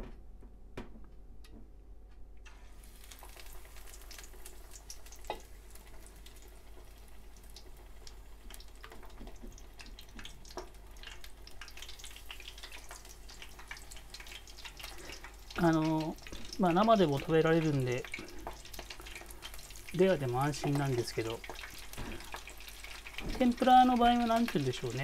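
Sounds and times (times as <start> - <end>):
food sizzling in hot oil: 2.5 - 25.0.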